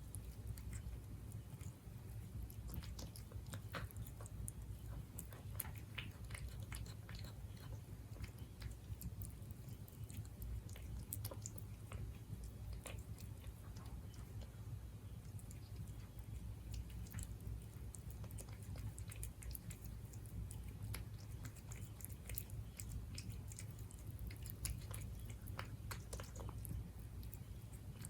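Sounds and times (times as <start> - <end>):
cat chewing food: 0.0 - 28.0
low steady hum: 0.0 - 28.0.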